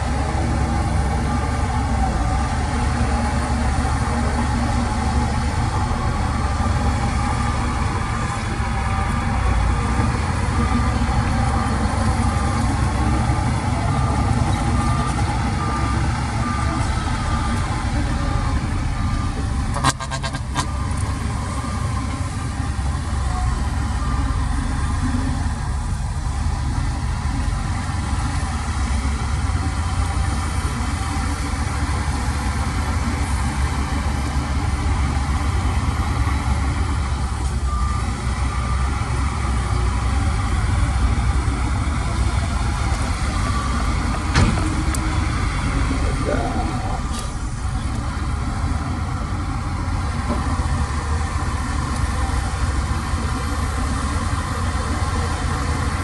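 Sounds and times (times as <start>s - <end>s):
reversing alarm beeping: 0.0s - 49.5s
heavy machinery engine running: 0.0s - 56.0s.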